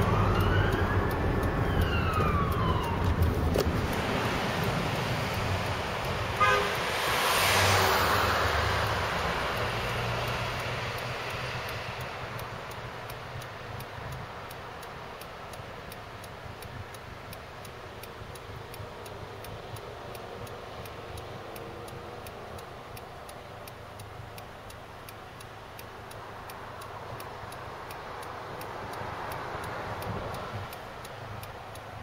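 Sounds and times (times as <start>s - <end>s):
traffic noise: 0.0s - 32.0s
turn signal ticking: 0.0s - 32.0s.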